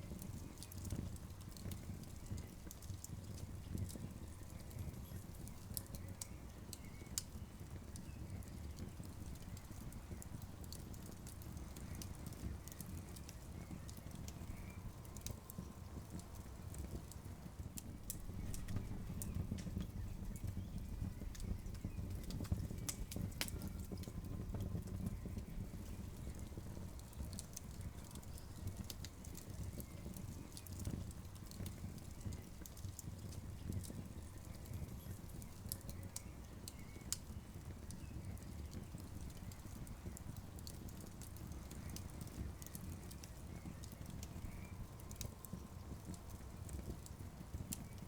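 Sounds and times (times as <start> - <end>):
campfire popping and snapping: 0.0 - 48.0
low fire rumble: 0.0 - 48.0.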